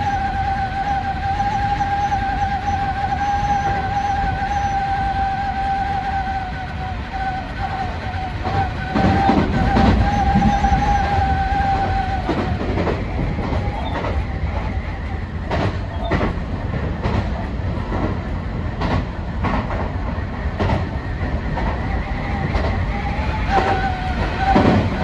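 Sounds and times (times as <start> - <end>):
train motor whine: 0.0 - 25.0
train wheel and rail rumble: 0.0 - 25.0
wheels clacking over rail joints: 0.0 - 25.0.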